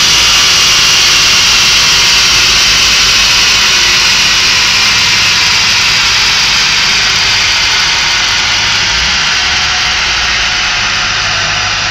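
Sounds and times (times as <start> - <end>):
engine rumble: 0.0 - 11.9.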